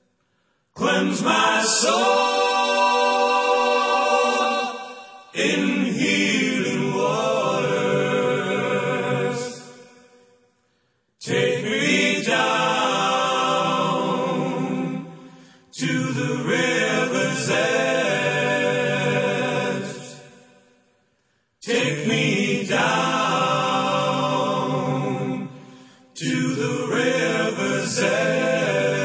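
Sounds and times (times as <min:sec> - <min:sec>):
choir singing sustained chords: 0:00.8 - 0:10.4, 0:11.2 - 0:21.0, 0:21.6 - 0:29.0.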